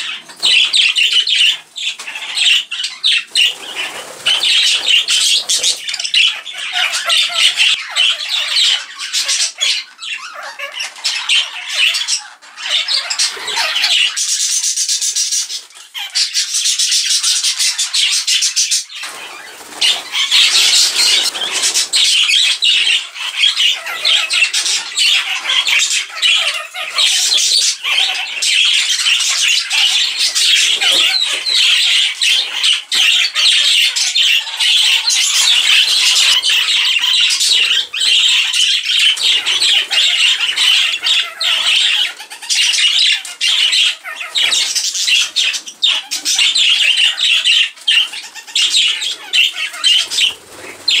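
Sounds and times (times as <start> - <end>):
budgerigars chattering and squawking: 0.0 - 51.0.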